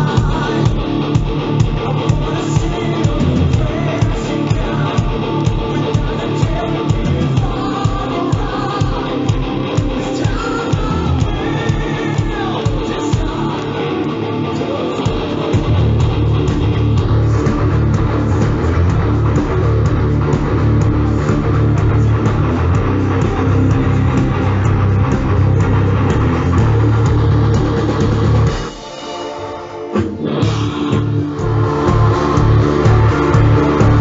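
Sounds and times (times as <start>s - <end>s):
heavy metal band playing live: 0.0s - 34.0s
lead singer: 0.0s - 34.0s.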